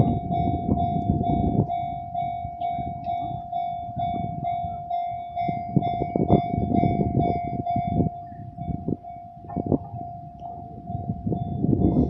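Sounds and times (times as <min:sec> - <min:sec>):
level-crossing alarm ringing: 0:00.0 - 0:12.0.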